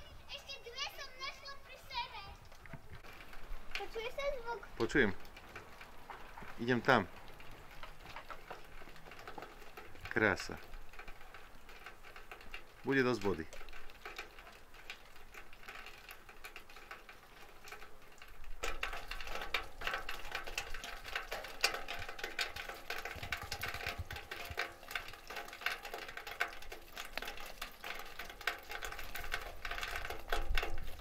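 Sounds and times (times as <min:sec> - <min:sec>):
meltwater dripping and trickling: 0:00.0 - 0:31.0.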